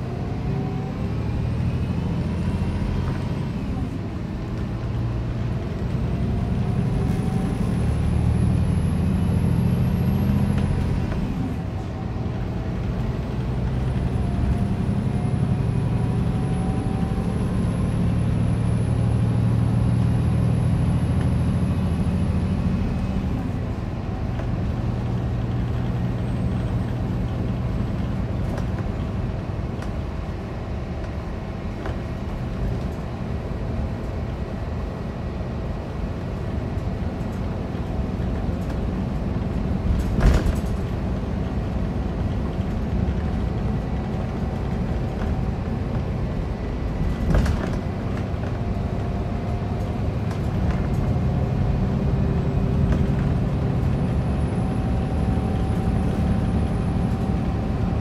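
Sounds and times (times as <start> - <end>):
diesel engine running: 0.0 - 58.0
road noise: 0.0 - 58.0.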